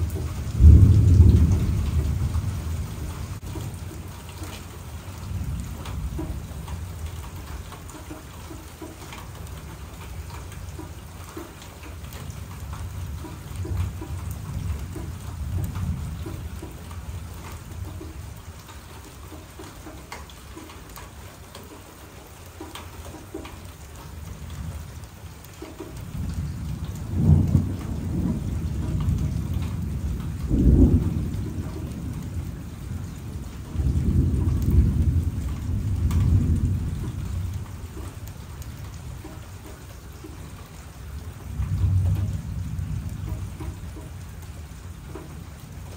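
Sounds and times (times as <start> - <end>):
thunder rumbling: 0.0 - 19.3, 24.2 - 45.9
steady rain: 0.0 - 45.9.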